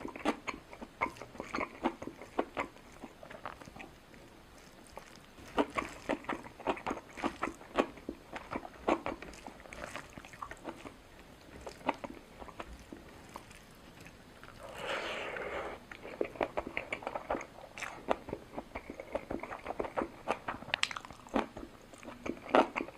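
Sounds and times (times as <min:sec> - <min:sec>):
person chewing food: 0:00.0 - 0:22.9.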